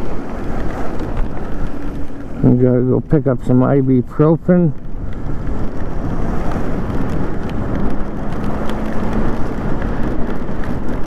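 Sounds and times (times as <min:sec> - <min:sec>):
tyre and road noise: 0:00.0 - 0:11.0
wind on microphone: 0:00.0 - 0:11.0.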